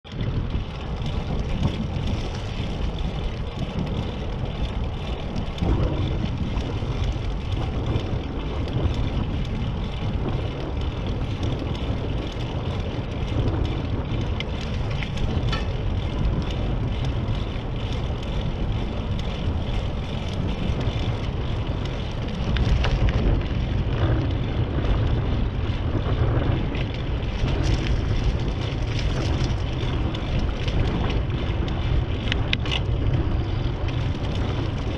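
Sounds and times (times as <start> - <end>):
tyres rumbling on asphalt: 0.0 - 34.9
wind buffeting microphone: 0.0 - 34.9.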